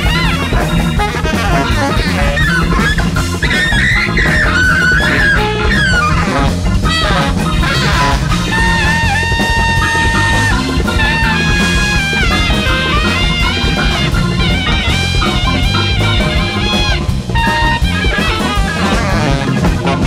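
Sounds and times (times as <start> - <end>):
bass: 0.0 - 20.0
bending lead melody: 0.0 - 20.0
drums: 0.0 - 20.0
free jazz big band playing: 0.0 - 20.0.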